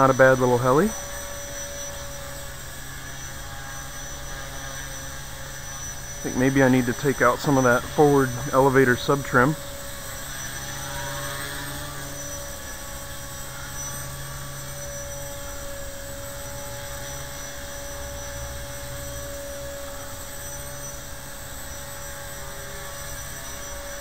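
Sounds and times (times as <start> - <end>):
rc helicopter whine: 0.0 - 24.0.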